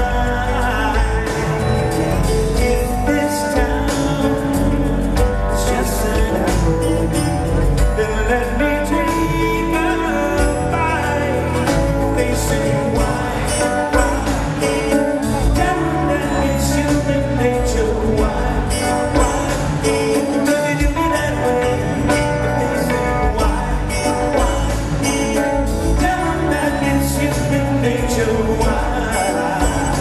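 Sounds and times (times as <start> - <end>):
light high percussion: 0.0 - 30.0
man singing lead vocal: 0.0 - 30.0
pop-rock band playing: 0.0 - 30.0.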